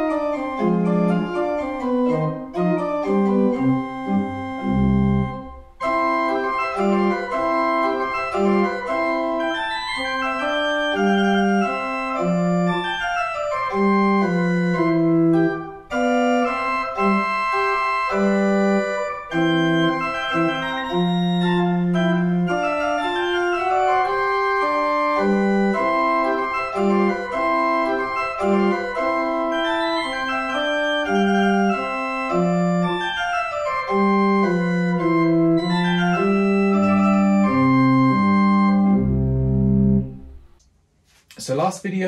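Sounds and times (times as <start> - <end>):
deep organ pedal notes: 0.0 - 40.6
pipe organ minuet: 0.0 - 40.6.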